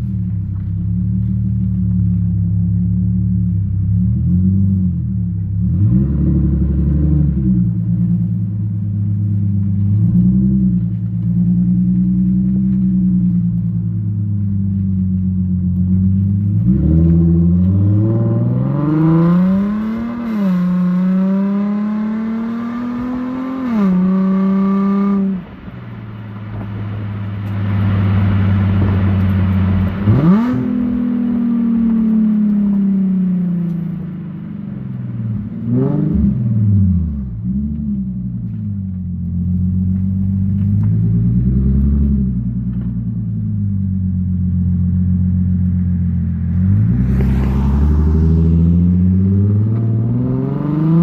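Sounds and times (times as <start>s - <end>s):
car exhaust drone: 0.0s - 51.0s.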